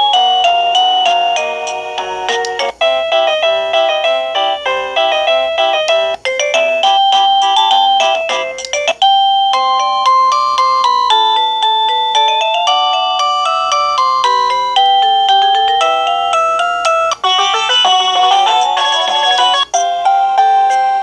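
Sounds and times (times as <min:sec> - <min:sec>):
doorbell chime ringtones: 0:00.0 - 0:21.0.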